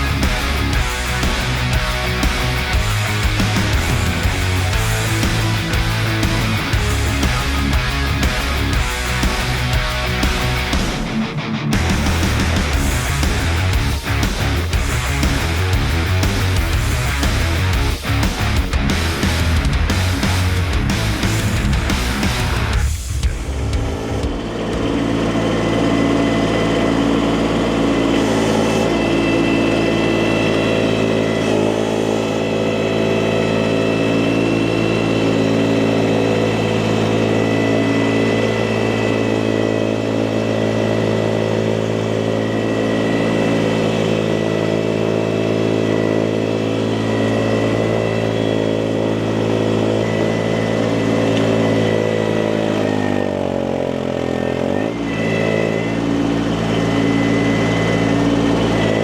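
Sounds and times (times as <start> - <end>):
small engine running at high speed: 0.0 - 59.0
steady high whine: 0.0 - 59.0.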